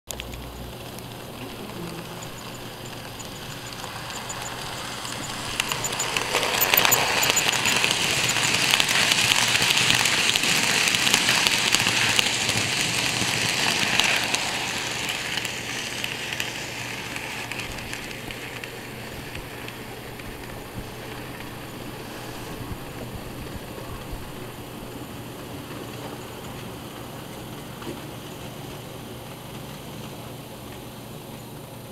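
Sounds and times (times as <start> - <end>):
model train wheels clicking: 0.1 - 31.0.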